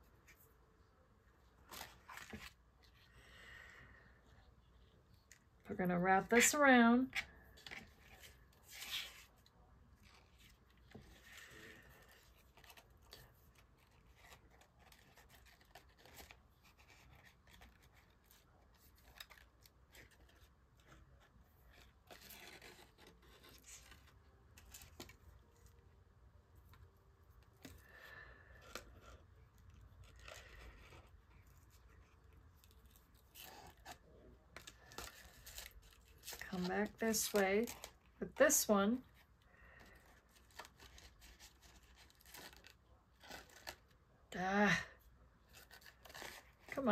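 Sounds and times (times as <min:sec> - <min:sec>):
string wrapping around paper card: 0:00.0 - 0:46.9.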